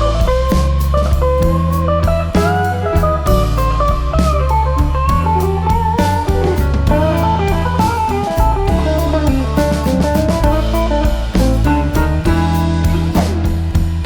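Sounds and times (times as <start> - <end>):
bass: 0.0 - 14.0
drum kit: 0.0 - 14.0
electric guitar melody: 0.0 - 14.0.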